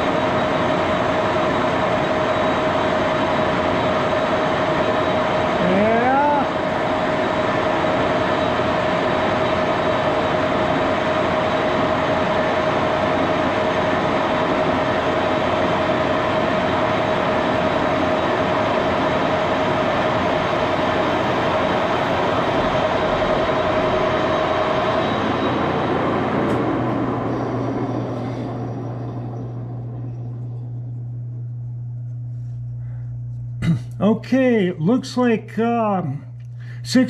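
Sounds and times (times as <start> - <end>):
lathe whine: 0.0 - 35.3.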